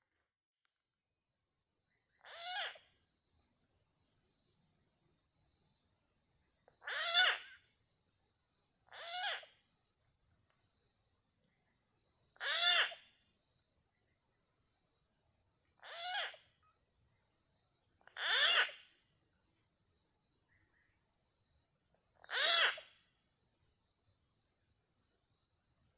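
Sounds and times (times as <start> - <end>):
insects buzzing: 1.5 - 25.9.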